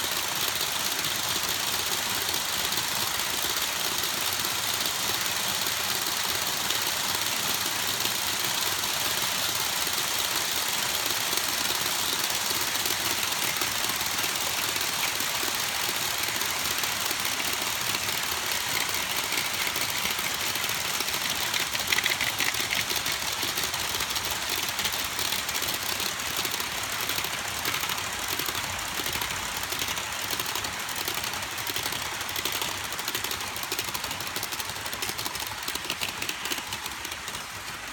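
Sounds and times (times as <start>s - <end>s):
model train wheels rattling on rails: 0.0s - 37.9s
wheels clicking over rail joints: 0.0s - 37.9s.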